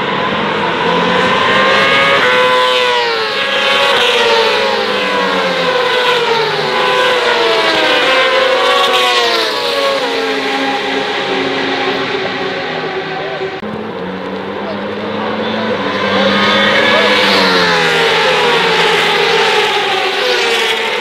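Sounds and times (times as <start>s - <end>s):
racing motorcycles passing at speed: 0.0s - 21.0s.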